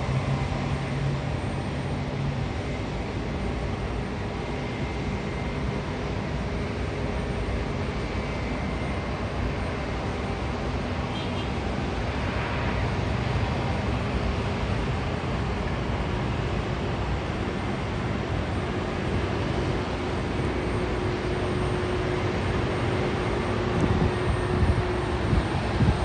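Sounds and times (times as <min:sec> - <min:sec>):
jet engines rushing: 0:00.0 - 0:26.0.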